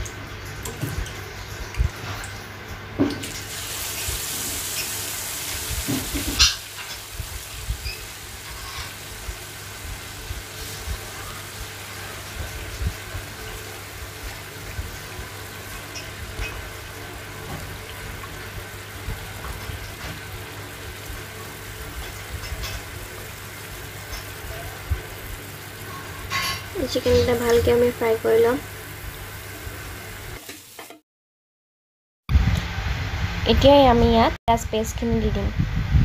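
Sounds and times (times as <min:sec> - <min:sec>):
chicken frying in hot oil: 0:00.0 - 0:31.0.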